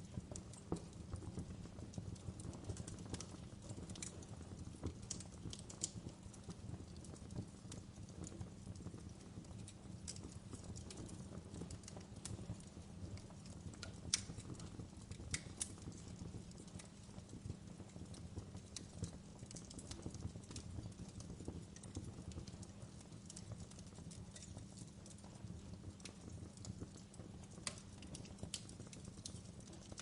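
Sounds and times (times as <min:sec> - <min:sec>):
burning wood crackling and popping: 0:00.0 - 0:30.0
fire flames rumbling: 0:00.0 - 0:30.0.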